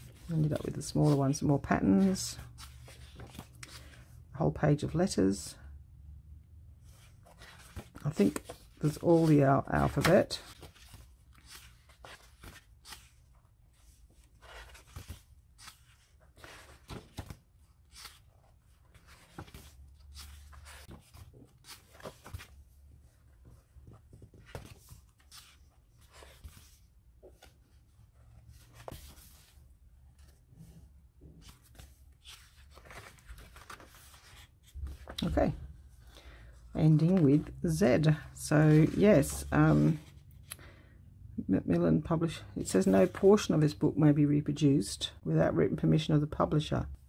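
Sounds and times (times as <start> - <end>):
book pages turning: 0.0 - 4.2, 6.9 - 40.6, 42.7 - 43.5.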